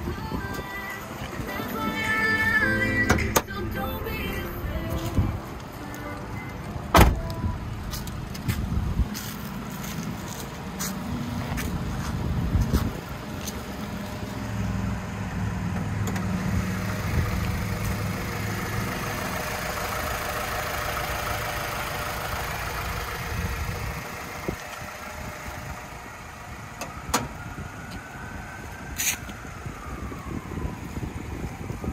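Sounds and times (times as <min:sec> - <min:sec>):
car engine starting and idling: 0:00.0 - 0:31.9.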